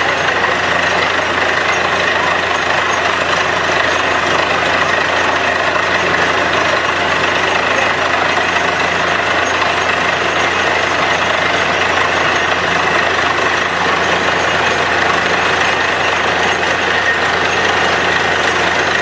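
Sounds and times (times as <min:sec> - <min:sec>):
drilling rig running: 0:00.0 - 0:19.0.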